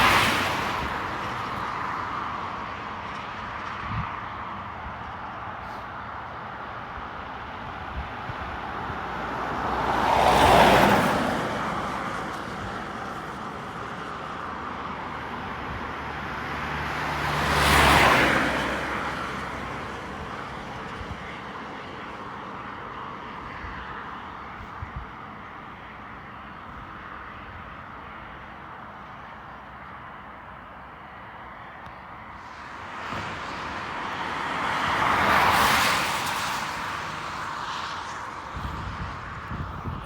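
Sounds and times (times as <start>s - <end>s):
road vehicles driving past: 0.0s - 40.0s.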